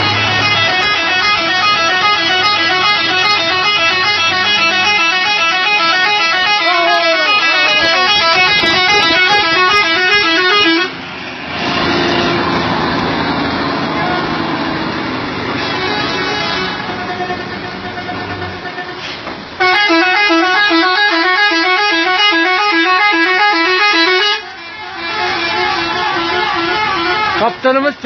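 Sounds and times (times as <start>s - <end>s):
multi-tone truck horn: 0.0s - 12.6s, 15.4s - 27.8s
truck engine running: 0.0s - 27.4s.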